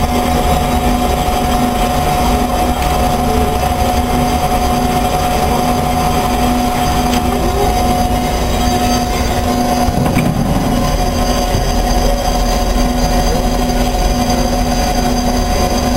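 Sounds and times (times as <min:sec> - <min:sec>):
band saw whining: 0:00.0 - 0:15.9.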